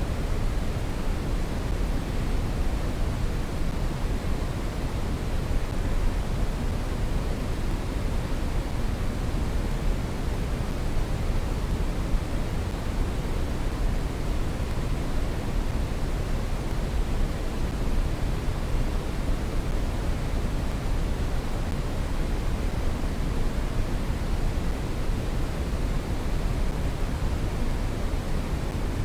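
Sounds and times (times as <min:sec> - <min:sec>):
brown noise hiss: 0:00.0 - 0:29.0.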